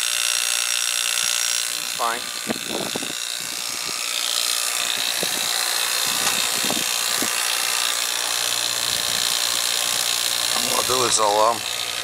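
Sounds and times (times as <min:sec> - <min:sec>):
vacuum pump running: 0:00.0 - 0:12.0.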